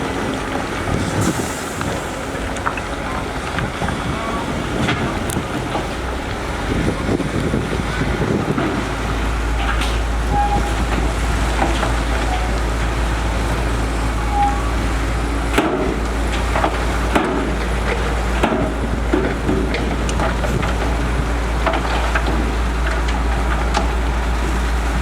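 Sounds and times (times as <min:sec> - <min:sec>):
construction machinery engine rumble: 0:00.0 - 0:25.0.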